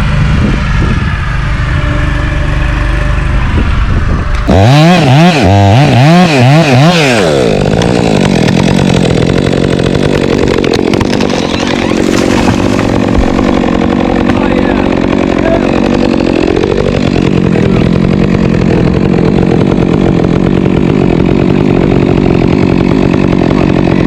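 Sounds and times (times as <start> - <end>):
chainsaw engine revving: 4.3 - 24.0.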